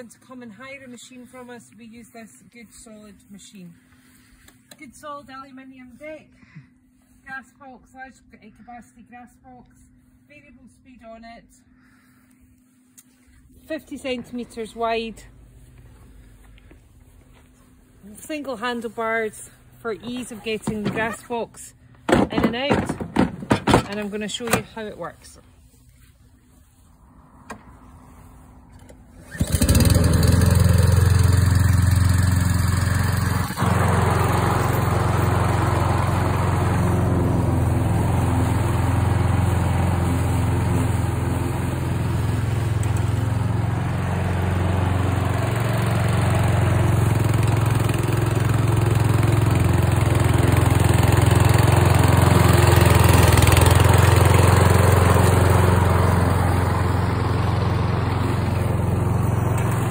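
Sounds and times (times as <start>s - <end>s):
lawnmower engine running: 11.9s - 59.9s.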